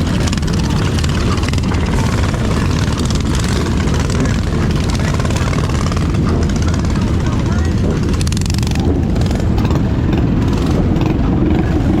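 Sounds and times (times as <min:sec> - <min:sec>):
mini-bike engines running: 0:00.0 - 0:12.0
wind buffeting microphone: 0:00.0 - 0:12.0.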